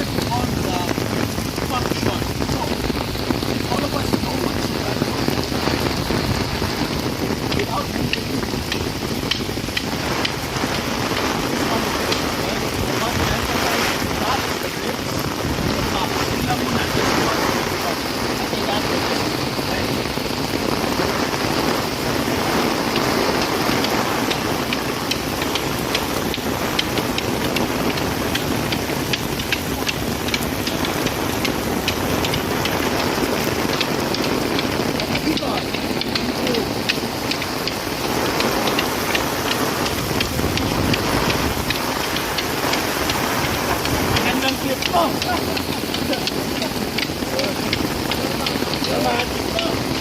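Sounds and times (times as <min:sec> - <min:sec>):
steady rain: 0:00.0 - 0:50.0
sharp light ticks: 0:00.1 - 0:50.0.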